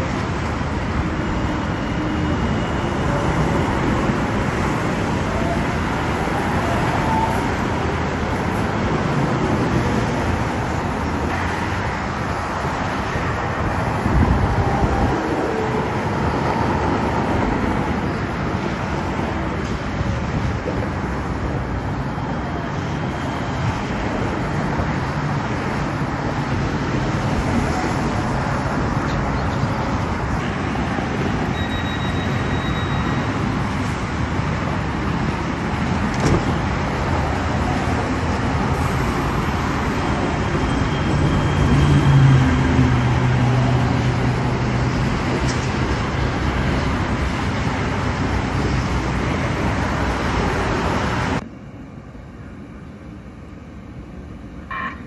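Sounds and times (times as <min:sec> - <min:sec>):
light-rail train humming: 0:00.0 - 0:55.0
road traffic rushing: 0:00.0 - 0:55.0.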